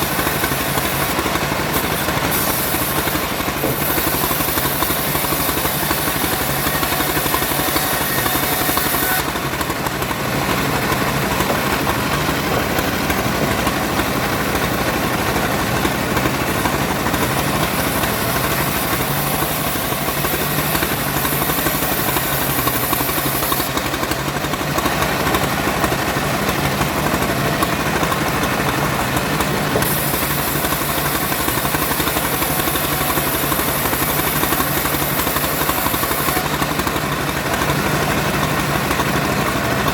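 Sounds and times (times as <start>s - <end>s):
engine-driven wood saw running: 0.0s - 39.9s.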